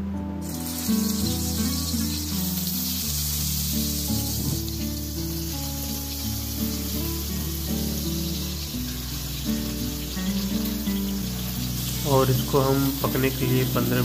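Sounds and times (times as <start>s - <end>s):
background music with held notes: 0.0s - 14.0s
oil sizzling: 0.4s - 14.0s.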